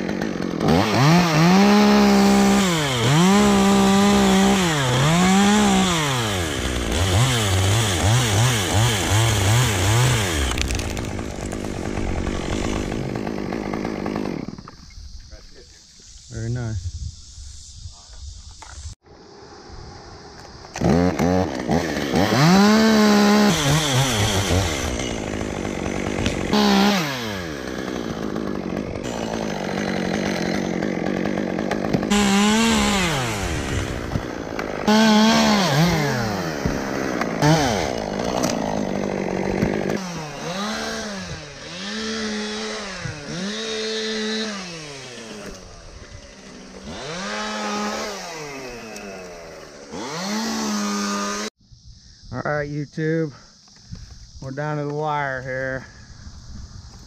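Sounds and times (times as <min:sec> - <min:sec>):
chainsaw cutting wood: 0:00.0 - 0:14.9, 0:20.7 - 0:51.5.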